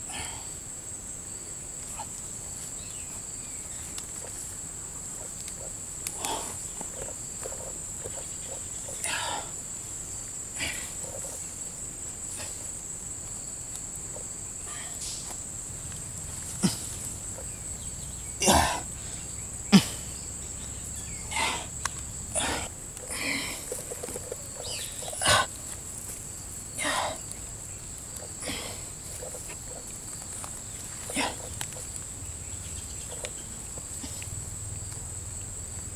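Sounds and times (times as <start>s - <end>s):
high-pitched insect drone: 0.1s - 35.9s.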